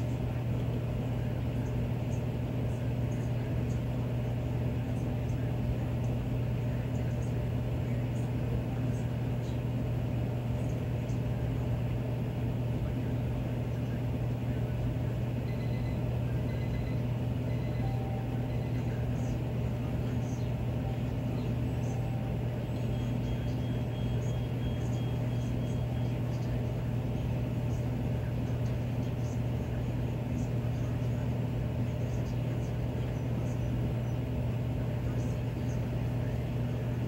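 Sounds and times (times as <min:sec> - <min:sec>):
furnace blower humming: 0:00.0 - 0:37.0.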